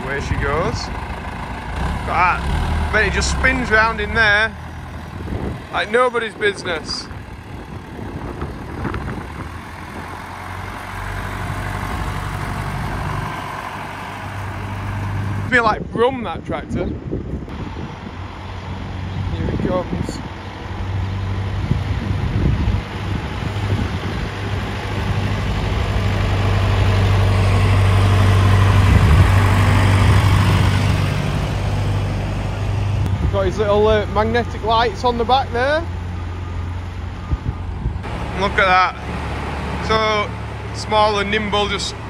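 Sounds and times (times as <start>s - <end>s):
tractor diesel engine running: 0.0s - 16.3s, 19.4s - 42.0s.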